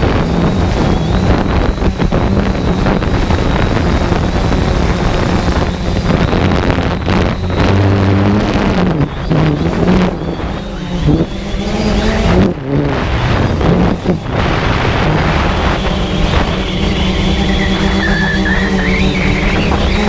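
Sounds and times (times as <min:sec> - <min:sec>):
model aircraft motor humming: 0:00.0 - 0:20.0
wind noise on microphone: 0:00.0 - 0:20.0.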